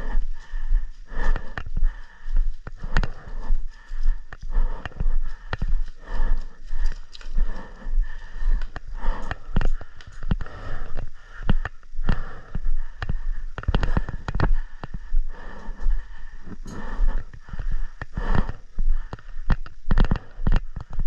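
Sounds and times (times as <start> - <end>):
footsteps: 0.0 - 21.0.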